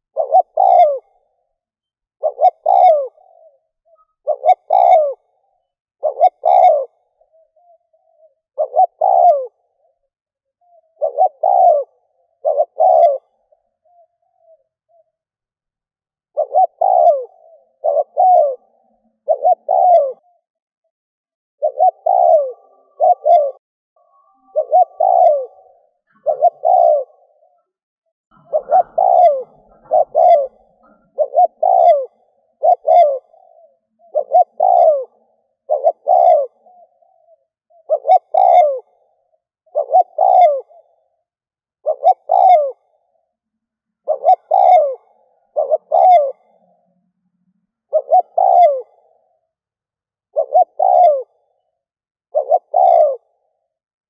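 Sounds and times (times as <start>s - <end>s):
dove cooing: 0.0s - 1.5s, 2.2s - 15.2s, 16.3s - 20.5s, 21.6s - 27.7s, 28.3s - 41.2s, 41.8s - 43.2s, 44.0s - 46.9s, 47.8s - 49.5s, 50.2s - 53.8s.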